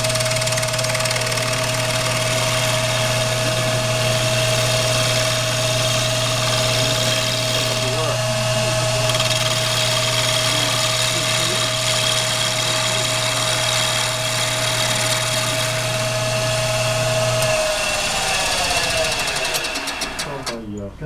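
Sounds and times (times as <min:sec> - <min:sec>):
lathe spinning down: 0:00.0 - 0:20.7
lathe whining and humming: 0:00.0 - 0:20.7.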